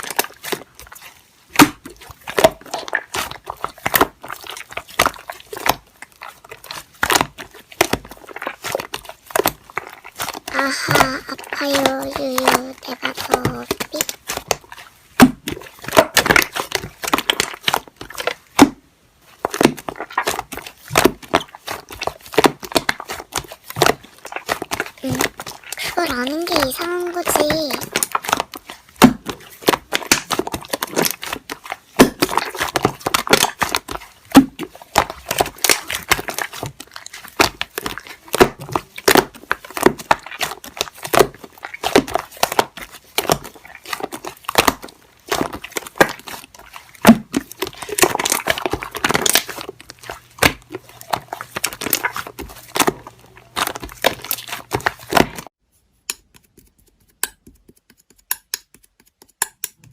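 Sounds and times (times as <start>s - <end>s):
slime crackling and popping: 0.0s - 55.6s.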